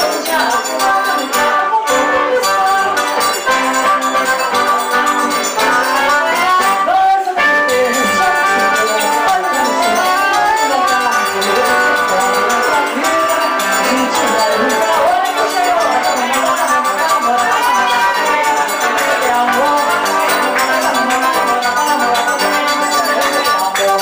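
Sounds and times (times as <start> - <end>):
live band with accordion: 0.0 - 24.0.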